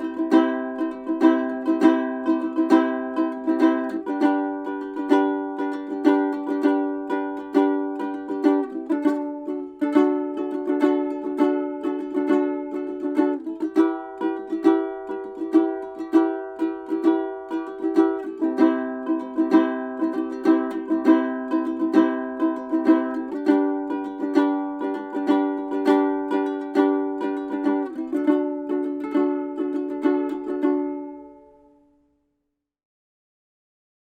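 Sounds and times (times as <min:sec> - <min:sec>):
ukulele strummed chords: 0:00.0 - 0:32.0.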